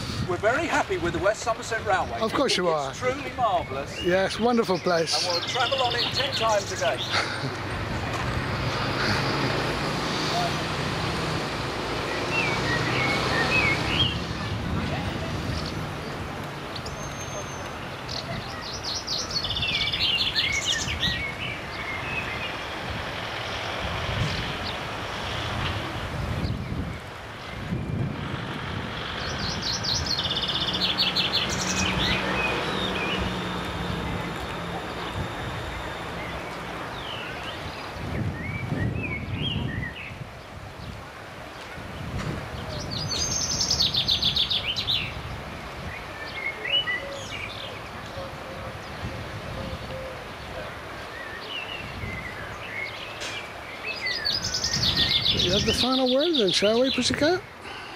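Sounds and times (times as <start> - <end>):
songbird chirping and trilling: 0.0 - 8.0, 10.1 - 25.3, 25.9 - 57.6.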